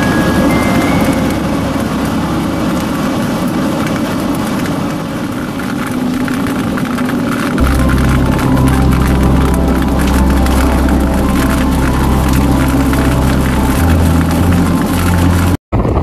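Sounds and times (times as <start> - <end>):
heavy rain and wind on a car: 0.0 - 16.0.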